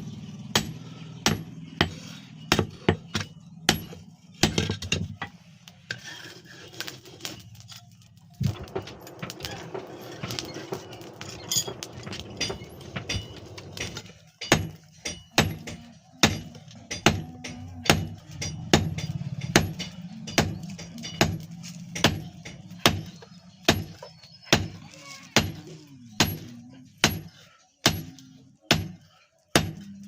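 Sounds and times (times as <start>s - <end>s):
hammer striking iron on anvil: 0.4s - 5.3s, 9.0s - 24.8s, 25.4s - 25.6s, 26.2s - 30.0s.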